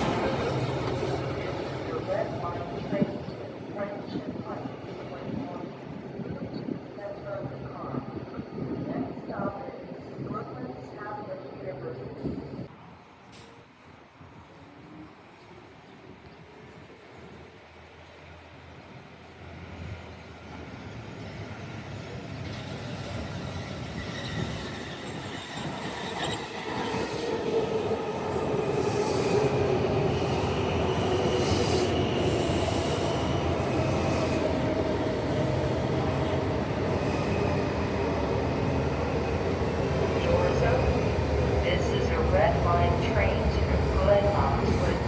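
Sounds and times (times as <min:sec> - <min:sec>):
train arriving: 0:00.0 - 0:45.0.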